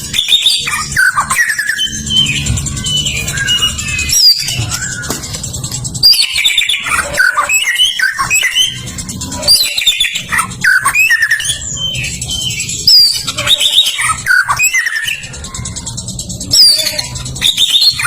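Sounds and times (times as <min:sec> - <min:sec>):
bird singing whistles and chirps: 0:00.0 - 0:18.0.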